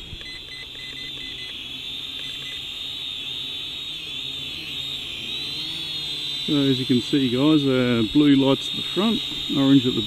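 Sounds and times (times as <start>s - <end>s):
quadcopter hovering whine: 0.0s - 10.0s
short beeps: 0.0s - 10.0s.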